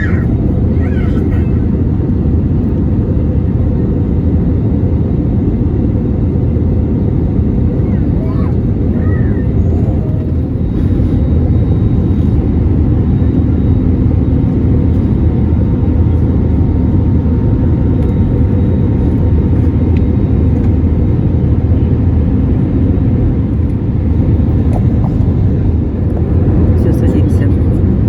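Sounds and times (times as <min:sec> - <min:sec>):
jet engine cabin rumble: 0:00.0 - 0:28.0.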